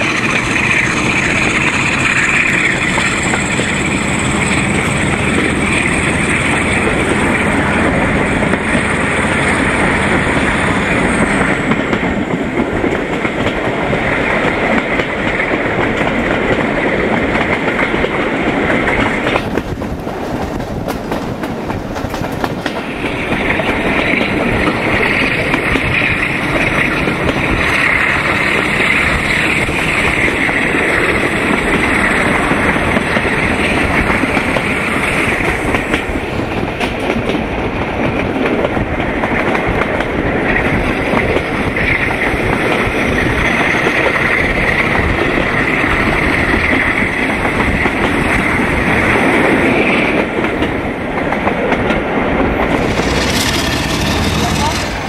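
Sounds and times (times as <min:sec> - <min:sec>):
diesel locomotive working: 0:00.0 - 0:55.0.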